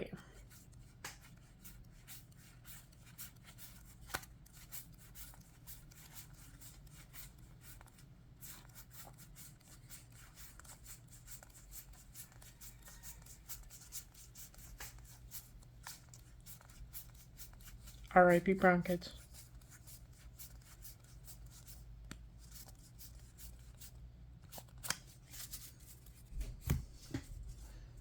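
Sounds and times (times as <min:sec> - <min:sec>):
trading cards rustling: 0:00.4 - 0:27.7.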